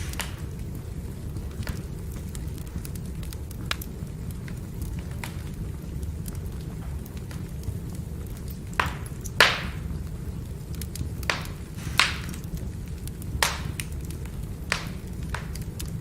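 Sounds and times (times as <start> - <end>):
firewood crackling: 0.0 - 16.0.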